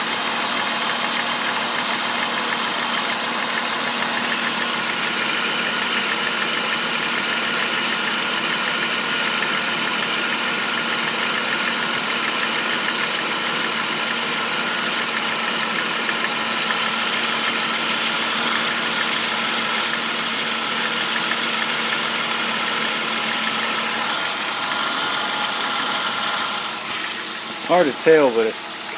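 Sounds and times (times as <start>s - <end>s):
car engine idling: 0.0s - 28.9s
engine ticking: 0.0s - 28.9s.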